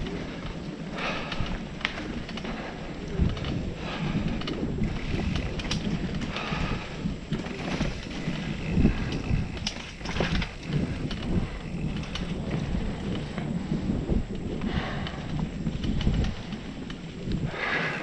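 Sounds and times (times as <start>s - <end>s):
bike clicks and rattles: 0.0s - 18.0s
bike tyre and frame rumble: 0.0s - 18.0s
wind buffeting microphone: 0.0s - 18.0s.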